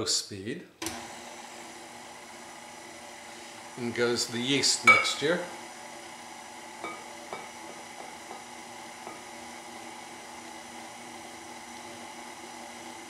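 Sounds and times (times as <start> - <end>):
stand mixer motor hum and whine: 0.8 - 13.0.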